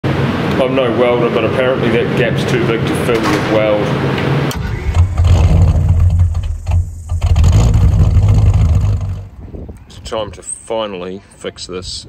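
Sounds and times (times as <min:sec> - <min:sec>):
engine exhaust rumble: 0:00.1 - 0:10.2.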